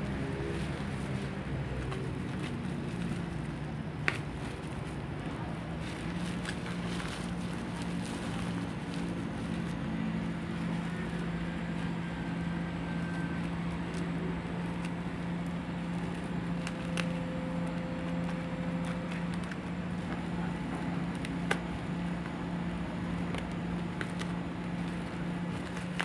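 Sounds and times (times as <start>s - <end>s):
steady low hum: 0.0s - 26.0s
bubble-wrap crinkling: 0.4s - 21.6s, 23.2s - 26.0s.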